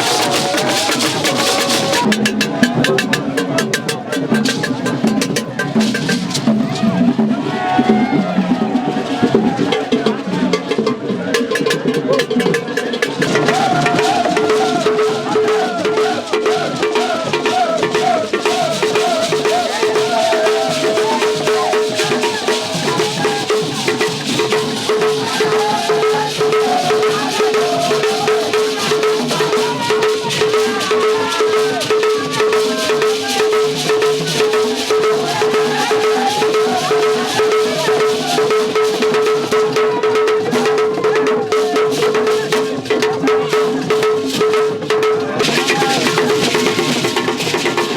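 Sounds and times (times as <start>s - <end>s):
percussion music with drums: 0.0s - 47.9s.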